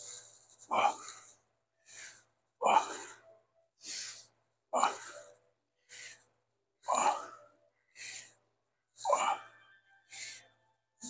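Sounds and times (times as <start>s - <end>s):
person breathing heavily: 0.0s - 10.6s.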